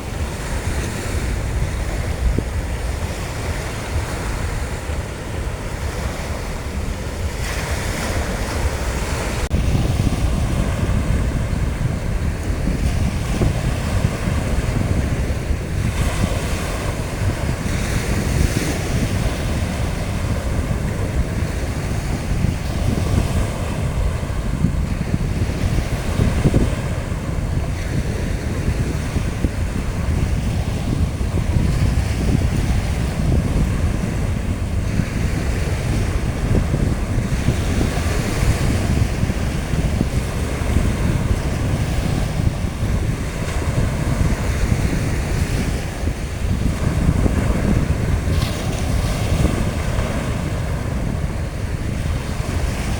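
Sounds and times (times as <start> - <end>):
surf breaking on a beach: 0.0 - 52.9
wind buffeting the microphone: 0.0 - 52.9.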